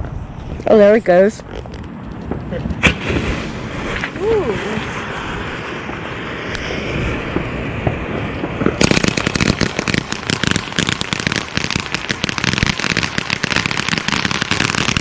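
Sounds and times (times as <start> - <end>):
firework crackling pops: 1.3 - 15.0
firework hissing: 2.6 - 15.0.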